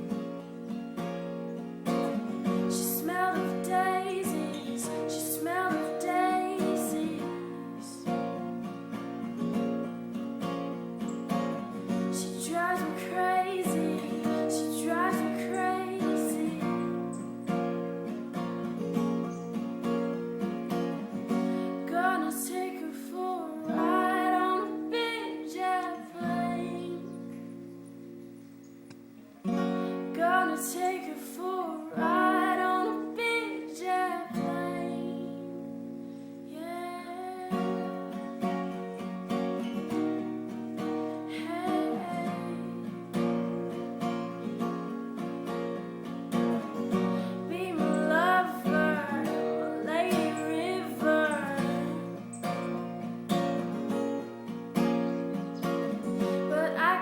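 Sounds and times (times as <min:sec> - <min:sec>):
song with acoustic guitar: 0:00.0 - 0:57.0.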